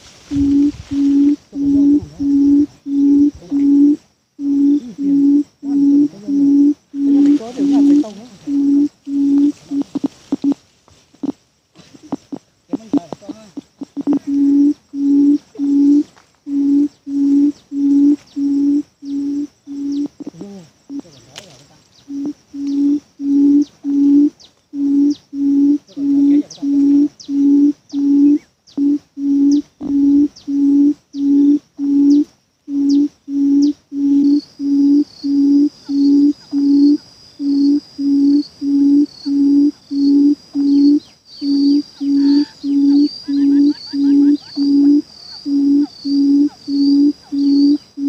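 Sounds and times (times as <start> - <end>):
bird booming call: 0.0 - 10.6, 11.2 - 21.1, 22.0 - 48.0.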